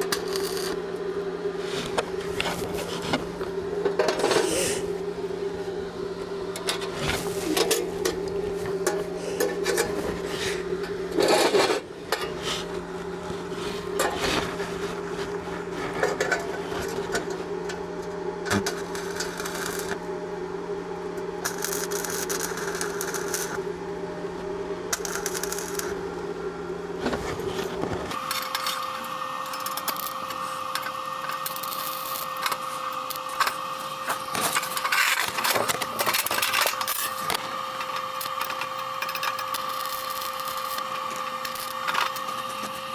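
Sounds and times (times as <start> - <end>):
machine hum: 0.0 - 42.9.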